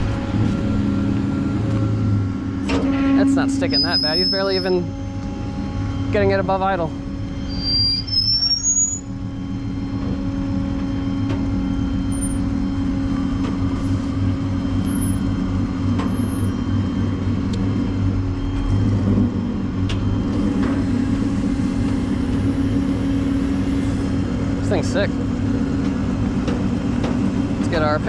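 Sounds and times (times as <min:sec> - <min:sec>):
car engine near idle: 0:00.0 - 0:28.0.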